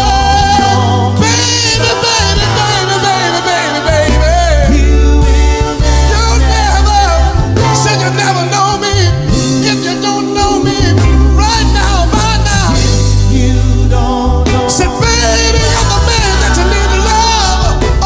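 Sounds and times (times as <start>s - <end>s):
drums: 0.0s - 18.0s
live band playing soul music: 0.0s - 18.0s
steady bass line: 0.0s - 18.0s
wavering lead melody: 0.0s - 18.0s.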